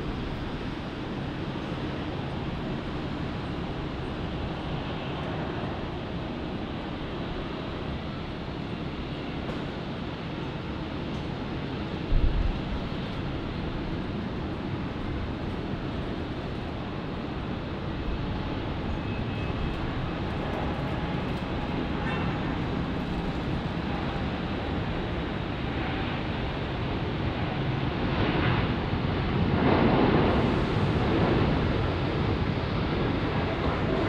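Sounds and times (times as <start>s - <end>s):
jet airliner engines: 0.0s - 34.0s.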